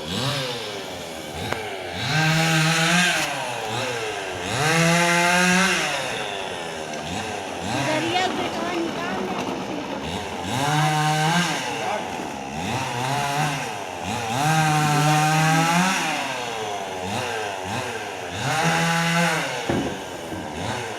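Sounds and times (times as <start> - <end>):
chainsaw engine revving: 0.0 - 20.9.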